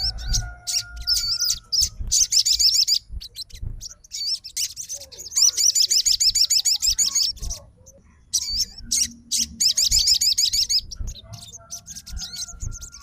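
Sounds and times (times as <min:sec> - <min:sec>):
songbird singing rapid chirps: 0:00.0 - 0:13.0.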